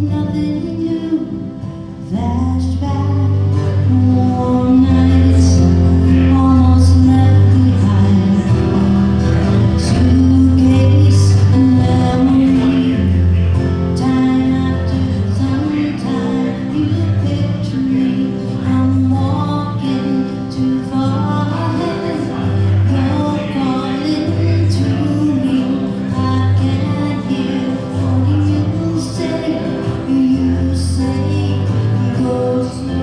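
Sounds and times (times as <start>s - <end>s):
acoustic guitar: 0.0s - 33.0s
woman singing: 0.0s - 33.0s.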